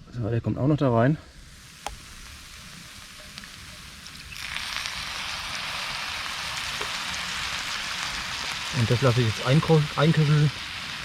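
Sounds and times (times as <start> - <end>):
juice sizzling in a hot pan: 1.2 - 11.0.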